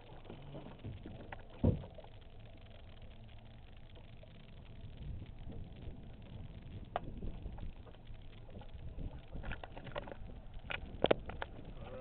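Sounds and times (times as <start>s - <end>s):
boat engine running low: 0.0s - 12.0s.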